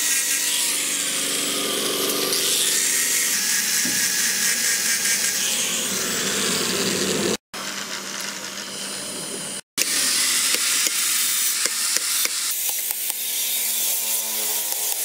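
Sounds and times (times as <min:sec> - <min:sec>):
angle grinder sanding: 0:00.0 - 0:15.0.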